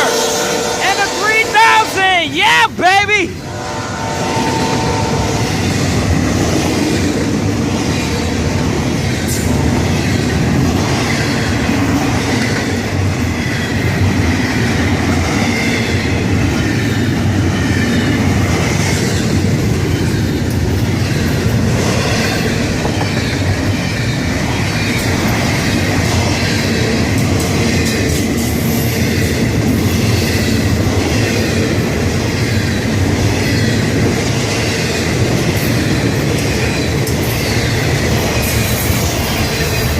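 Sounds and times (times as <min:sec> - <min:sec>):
train wheels rumbling on rail: 0:03.4 - 0:39.9.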